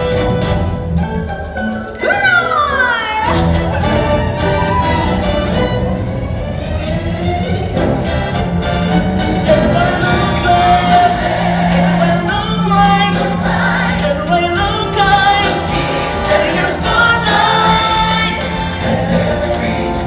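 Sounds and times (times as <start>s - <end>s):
choir singing held notes: 0.0s - 20.0s
low musical accompaniment: 0.0s - 20.0s.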